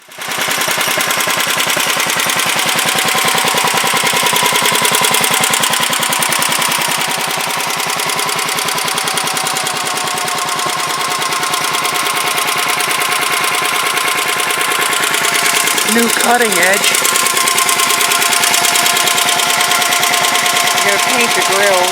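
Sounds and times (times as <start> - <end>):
garden tractor engine running: 0.0 - 21.9.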